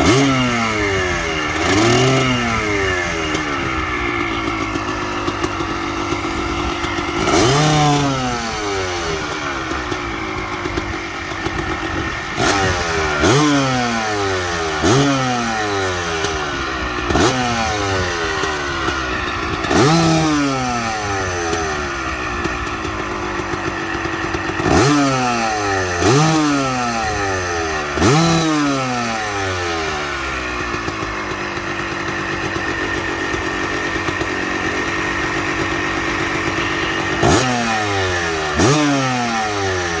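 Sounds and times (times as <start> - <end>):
two-stroke engine revving: 0.0 - 40.0.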